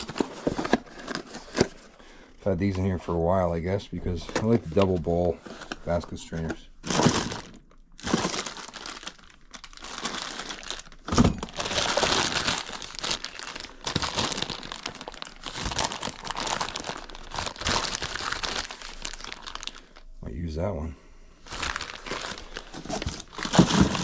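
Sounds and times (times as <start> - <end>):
packaging crinkling and rustling: 0.0 - 20.1, 21.4 - 24.0.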